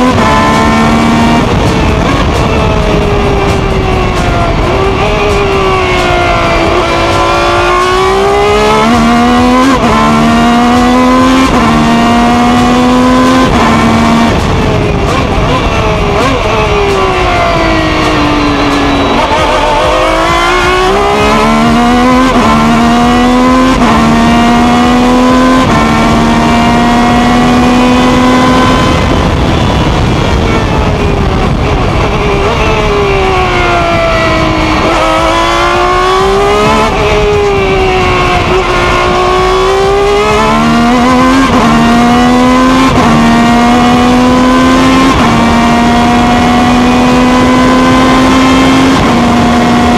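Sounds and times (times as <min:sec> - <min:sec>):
racing engine at full throttle: 0:00.0 - 0:49.9.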